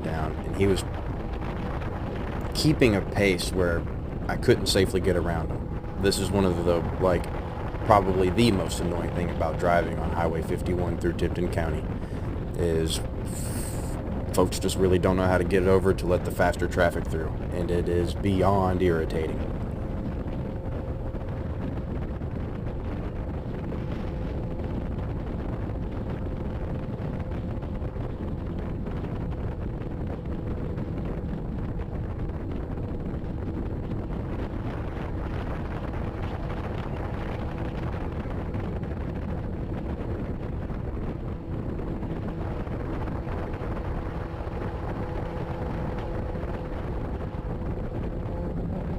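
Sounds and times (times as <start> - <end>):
motorcycle engine hum: 0.0 - 48.9
wind rushing on microphone: 0.0 - 48.9.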